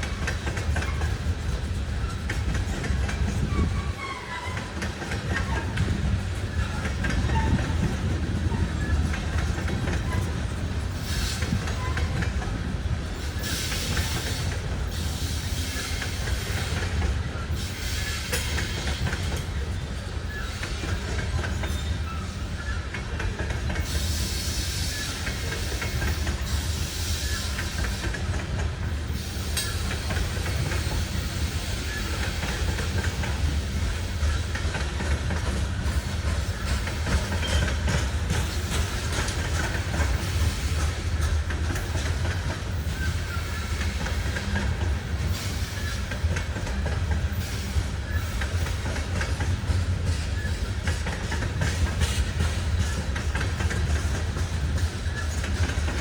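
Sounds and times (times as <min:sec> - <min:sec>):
high rail noise: 0:00.0 - 0:56.0
train wheels rumbling on track: 0:00.0 - 0:56.0.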